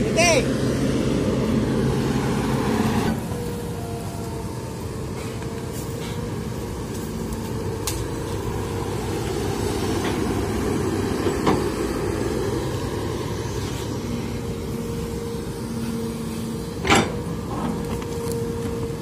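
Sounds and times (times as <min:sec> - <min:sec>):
excavator diesel engine: 0:00.0 - 0:19.0
faint steady whine: 0:00.9 - 0:19.0.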